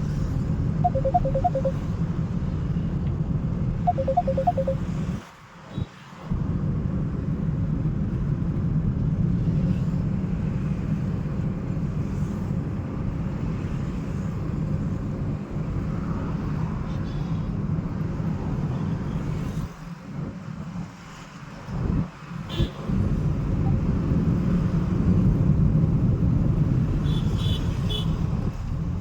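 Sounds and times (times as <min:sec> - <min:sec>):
car road and engine rumble: 0:01.7 - 0:03.9, 0:04.7 - 0:29.0.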